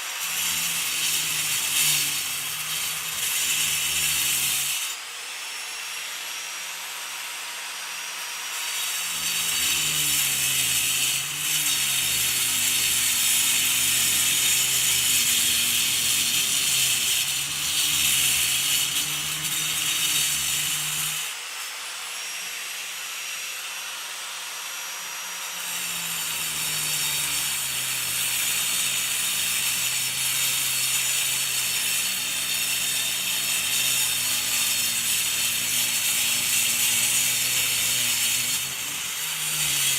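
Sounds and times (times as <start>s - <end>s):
angle grinder cutting concrete: 0.0s - 39.9s.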